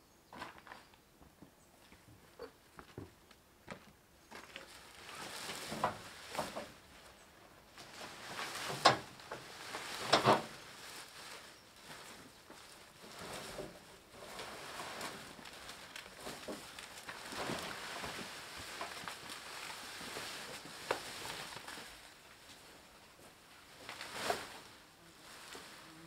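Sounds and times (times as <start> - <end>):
corn stalks rustling: 4.3 - 26.0.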